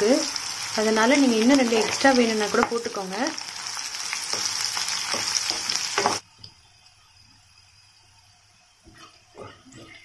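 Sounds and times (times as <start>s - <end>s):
oil sizzling loudly: 0.0s - 10.0s.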